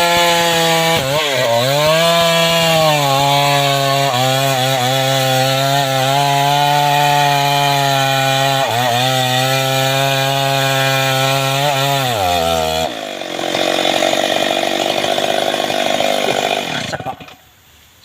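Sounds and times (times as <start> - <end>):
chainsaw running: 0.0 - 17.4
chainsaw sawing through wood: 0.0 - 17.4.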